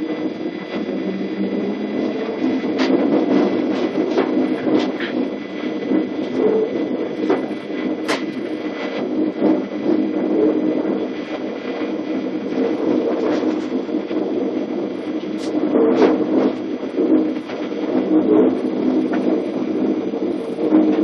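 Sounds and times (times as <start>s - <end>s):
train running hum: 0.0s - 21.0s.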